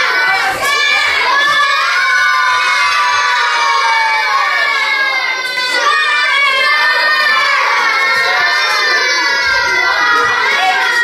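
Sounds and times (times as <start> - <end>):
children shouting and chattering: 0.0 - 11.0.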